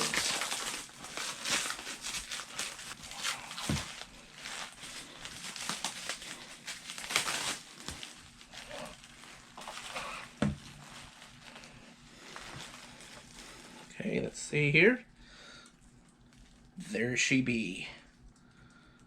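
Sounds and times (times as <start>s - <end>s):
plastic wrapping crinkling: 0.0s - 14.2s, 15.7s - 16.8s.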